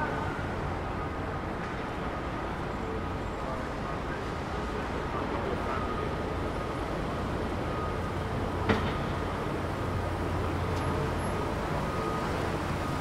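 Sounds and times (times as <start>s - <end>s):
city noise: 0.0s - 13.0s.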